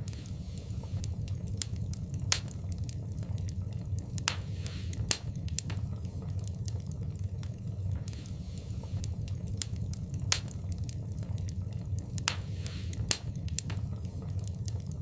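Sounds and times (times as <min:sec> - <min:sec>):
fire hissing: 0:00.0 - 0:15.0
wood fire crackling: 0:00.0 - 0:15.0.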